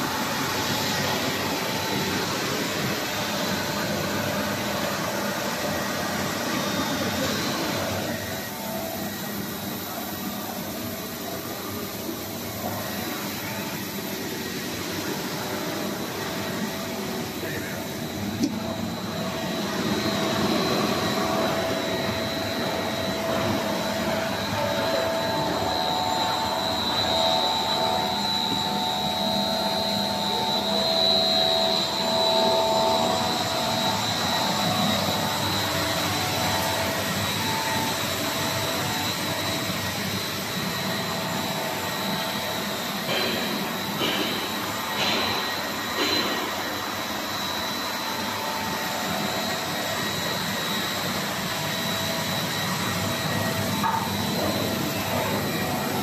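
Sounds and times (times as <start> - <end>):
machine whirring with high whine: 0.0 - 56.0.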